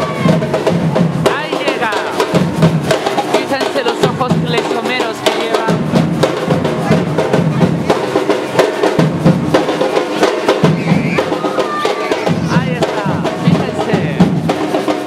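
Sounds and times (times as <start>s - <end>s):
bass drum and snare beat: 0.0s - 15.0s
festive dance music: 0.0s - 15.0s.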